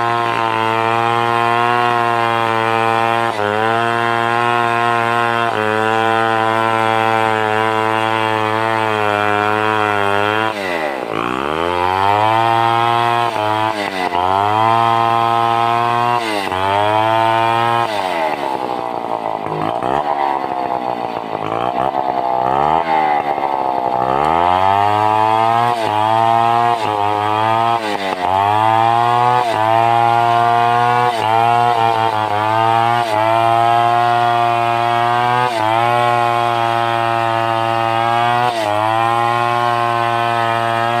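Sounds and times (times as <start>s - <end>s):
chainsaw cutting timber: 0.0s - 41.0s.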